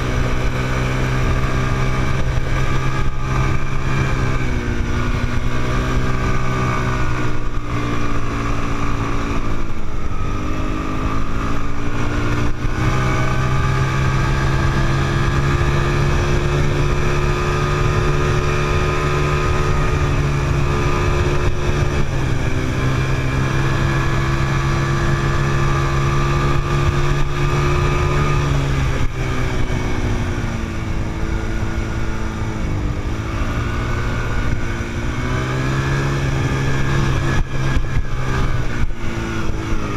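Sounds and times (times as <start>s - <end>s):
quad bike engine running hard: 0.0s - 39.9s.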